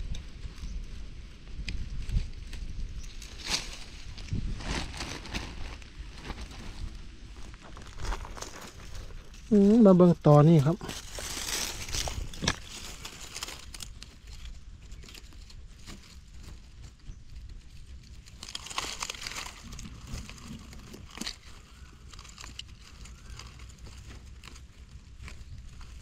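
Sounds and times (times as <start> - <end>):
dry leaves and twigs crackling: 0.0 - 26.0.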